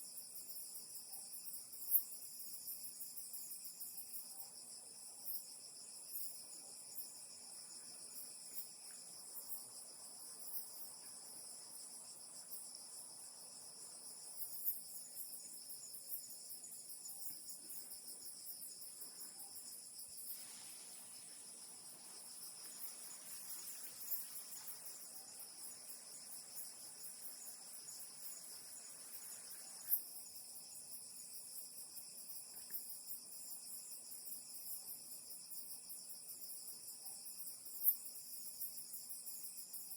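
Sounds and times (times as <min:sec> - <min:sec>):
insects trilling: 0:00.2 - 0:39.9.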